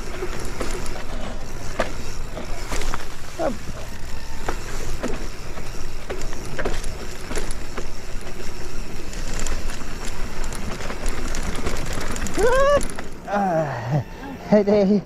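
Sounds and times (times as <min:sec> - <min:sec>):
wind and tyre rumble: 0:00.0 - 0:13.3
bike rattling and clicking: 0:00.0 - 0:13.6.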